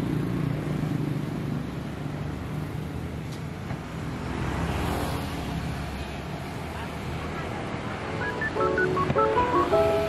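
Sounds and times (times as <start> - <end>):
traffic engine rumble: 0.0 - 10.0.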